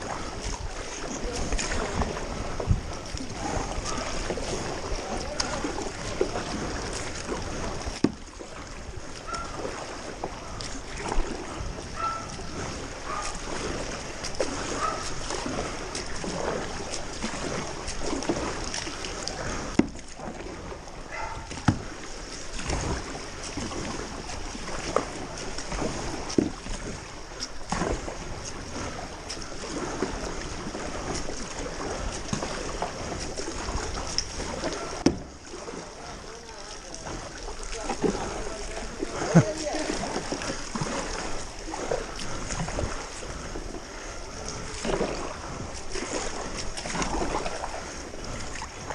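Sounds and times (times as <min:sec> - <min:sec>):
paddle splashing in water: 0:00.0 - 0:48.9.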